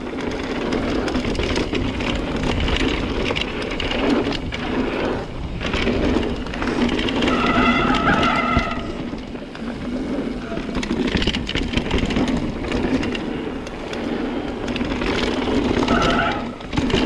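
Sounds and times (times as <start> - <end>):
bike rattling over bumps: 0.0 - 17.0
tyres running on dirt: 0.0 - 17.0.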